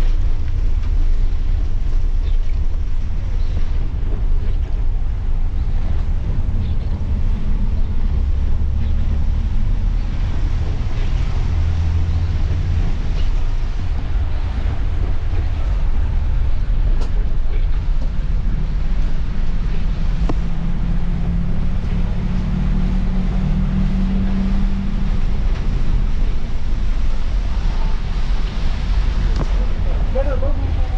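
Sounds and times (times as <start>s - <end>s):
bus engine and road rumble: 0.0s - 30.9s
rain on windscreen: 0.0s - 30.9s
tyres hissing on wet road: 0.0s - 30.9s.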